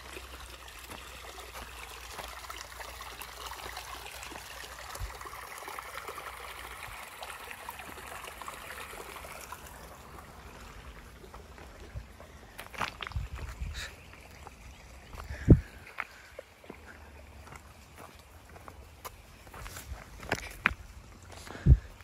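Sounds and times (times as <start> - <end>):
creek water trickling: 0.0 - 22.0.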